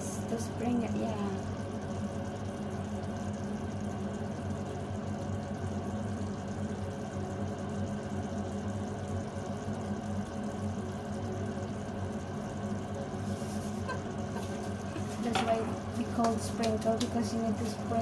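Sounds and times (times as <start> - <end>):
sauce simmering in a frying pan: 0.0 - 18.0
steady low hum: 0.0 - 18.0.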